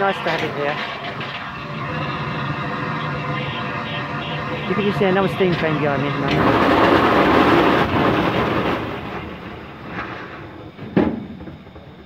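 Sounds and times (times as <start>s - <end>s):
steam train rushing: 0.0s - 12.0s.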